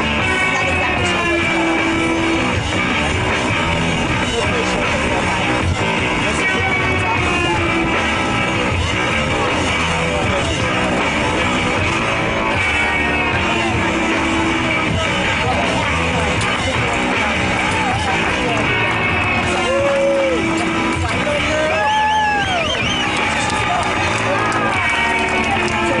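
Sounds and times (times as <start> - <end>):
rock music with guitar and singing: 0.0 - 26.0.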